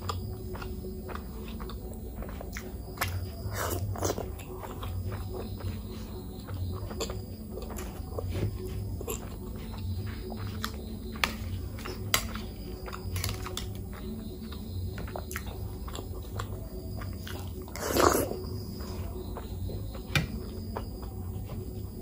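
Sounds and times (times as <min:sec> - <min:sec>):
person chewing: 0:00.0 - 0:19.2.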